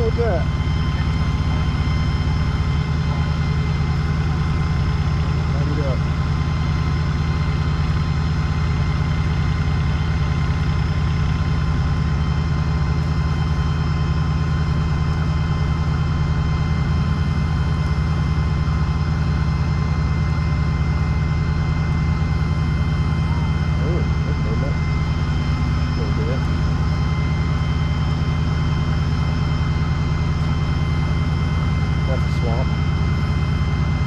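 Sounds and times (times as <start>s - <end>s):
heavy engine humming steadily: 0.0s - 34.0s.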